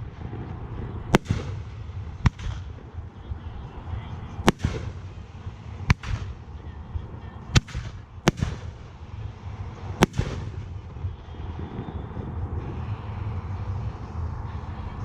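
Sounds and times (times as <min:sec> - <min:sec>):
fireworks exploding: 0:00.0 - 0:12.8
low background rumble: 0:00.0 - 0:15.0.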